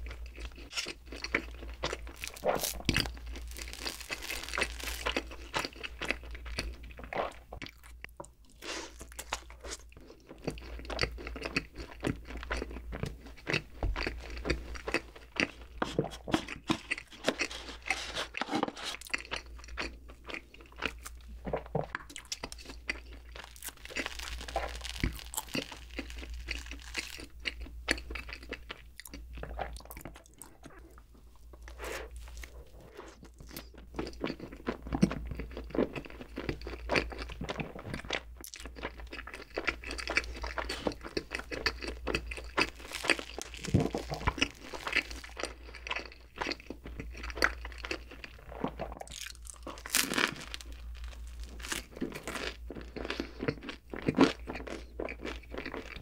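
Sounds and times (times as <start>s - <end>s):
chewing soft bread: 0.0s - 56.0s.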